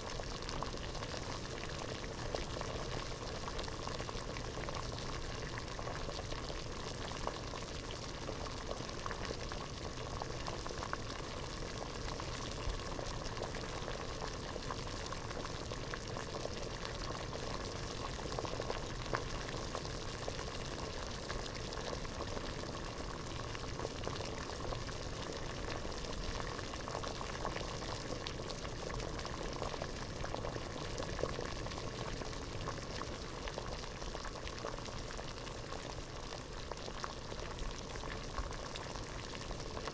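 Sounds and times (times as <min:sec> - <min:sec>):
water boiling in a pot: 0:00.0 - 0:39.9.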